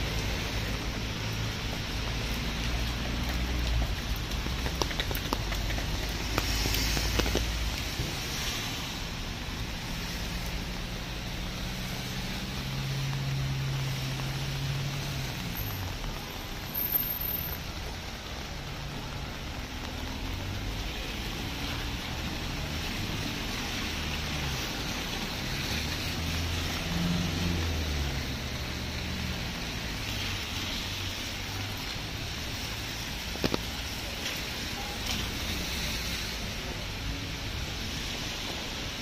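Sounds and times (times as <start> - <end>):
rain hiss: 0.0 - 39.0
tyres on wet road: 0.0 - 39.0.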